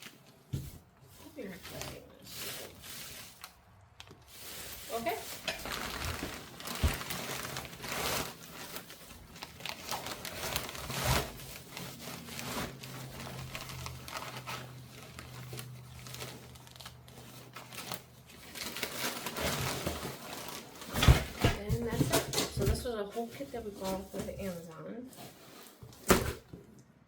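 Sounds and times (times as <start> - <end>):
plastic packaging crinkling: 1.1 - 24.6.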